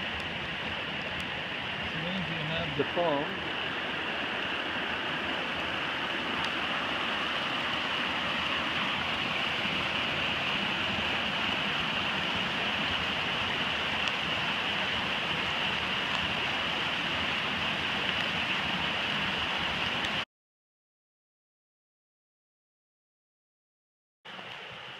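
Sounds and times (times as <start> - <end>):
rain falling on water: 0.0 - 20.2, 24.3 - 24.9.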